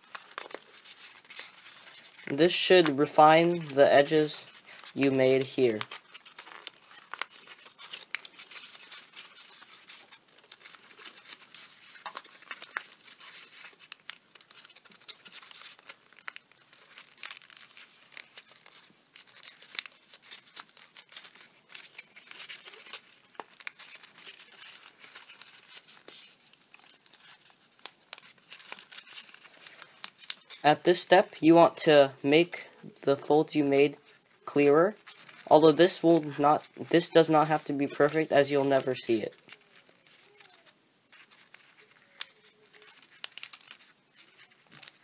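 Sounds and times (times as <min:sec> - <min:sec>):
paper crinkling: 0:00.0 - 0:45.0.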